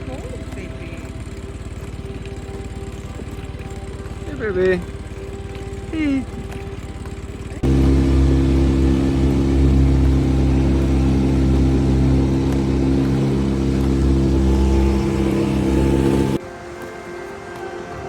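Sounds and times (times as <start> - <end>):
boat motor running: 0.0 - 16.4.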